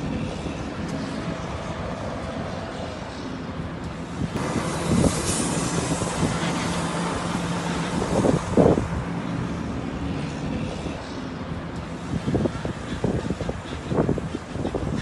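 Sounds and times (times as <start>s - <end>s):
steady rumbling noise: 0.0s - 15.0s.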